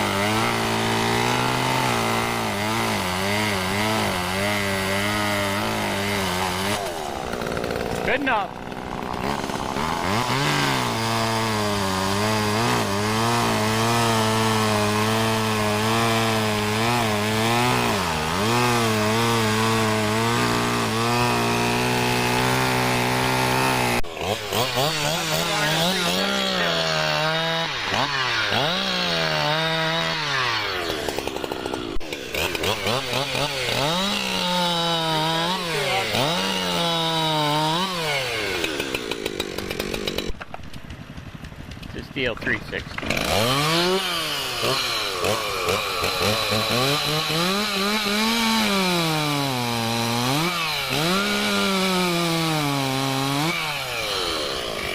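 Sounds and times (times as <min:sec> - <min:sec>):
high-pitched chainsaw revving: 0:00.0 - 0:40.4, 0:42.1 - 0:54.9
chainsaw running steadily: 0:00.0 - 0:54.9.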